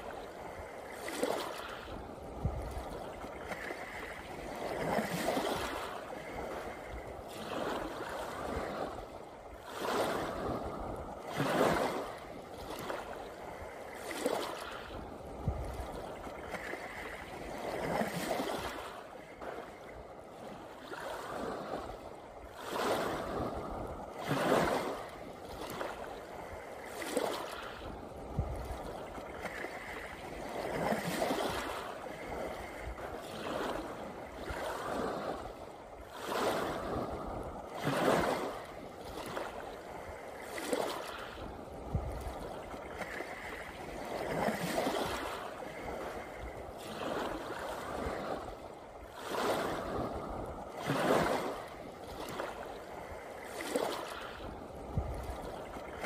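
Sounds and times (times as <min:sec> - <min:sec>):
sea waves lapping on rocks: 0:00.0 - 0:56.0.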